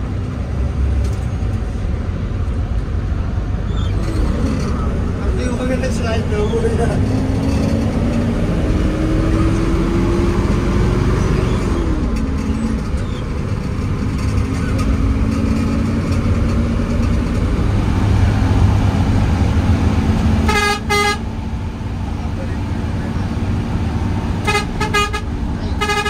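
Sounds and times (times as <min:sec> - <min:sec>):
bus engine: 0:00.0 - 0:26.0.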